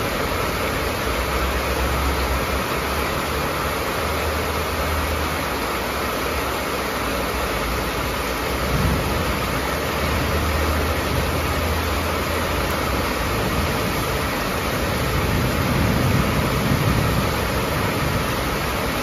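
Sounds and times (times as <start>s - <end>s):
heavy rain on a metal roof: 0.0s - 19.0s.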